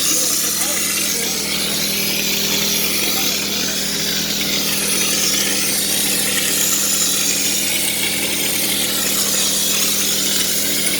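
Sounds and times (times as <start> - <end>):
motor hum: 0.0 - 10.9.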